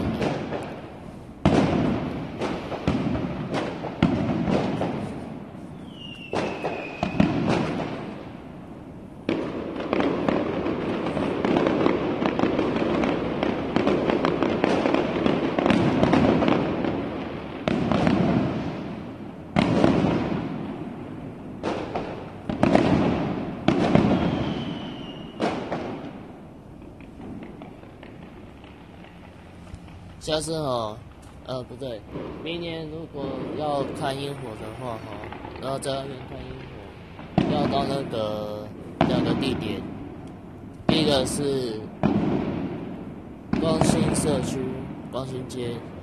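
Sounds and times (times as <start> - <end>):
firework shells bursting: 0.0 - 46.0
fireworks crackling: 0.0 - 46.0.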